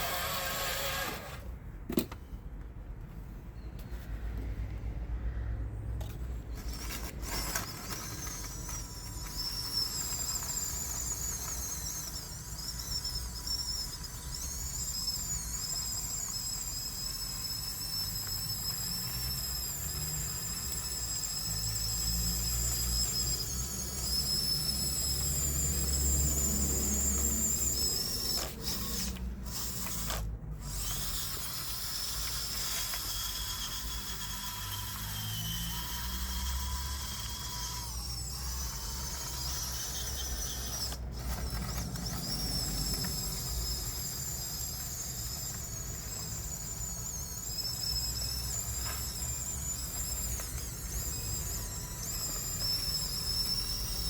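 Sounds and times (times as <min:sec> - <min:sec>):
toy bulldozer motors whining: 0:00.0 - 0:02.2, 0:06.0 - 0:54.0.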